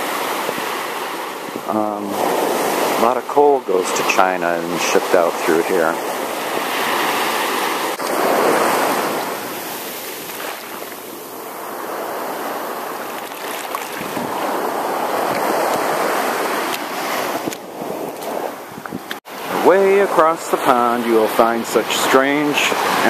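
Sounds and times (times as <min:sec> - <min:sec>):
small waves washing on shore: 0:00.0 - 0:23.0.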